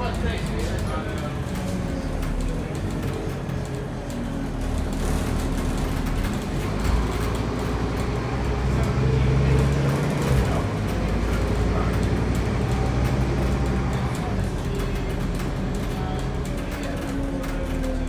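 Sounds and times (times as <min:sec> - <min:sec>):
bus diesel engine droning: 0:00.0 - 0:18.0.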